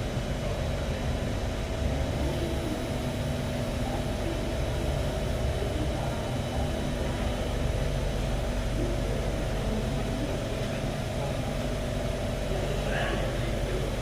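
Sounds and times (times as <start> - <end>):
metro train rumble and hum: 0.0 - 14.0.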